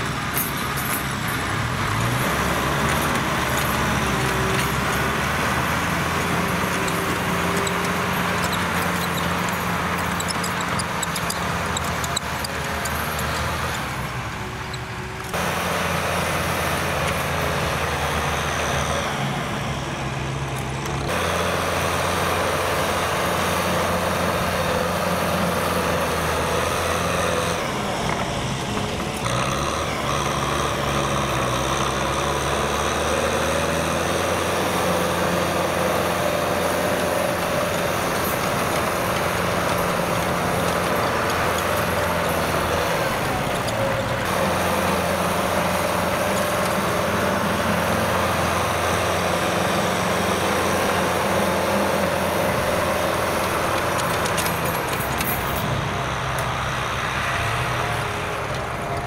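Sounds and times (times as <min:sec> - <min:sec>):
rotary tiller churning soil: 0:00.0 - 0:14.4, 0:21.1 - 0:55.7
tractor diesel engine running: 0:00.0 - 0:59.0.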